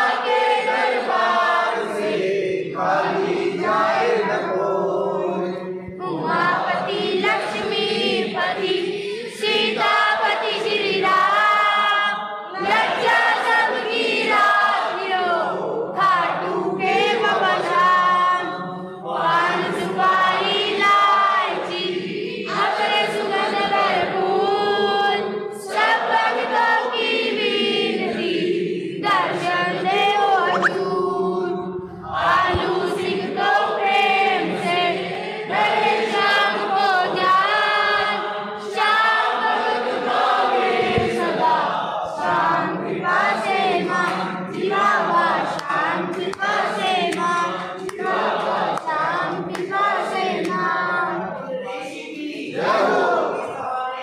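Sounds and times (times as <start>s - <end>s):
group singing a hymn: 0.0s - 54.0s.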